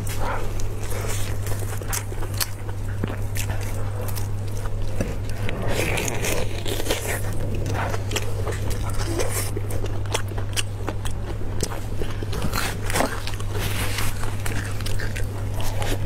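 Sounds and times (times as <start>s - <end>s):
low hum: 0.0s - 16.0s
person eating ribs: 0.0s - 16.0s.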